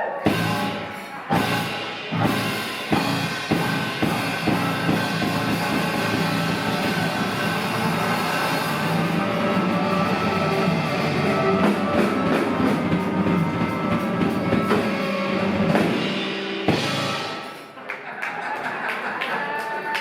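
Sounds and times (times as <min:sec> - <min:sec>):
drum kit: 0:00.0 - 0:17.8
electric guitar: 0:00.3 - 0:17.7.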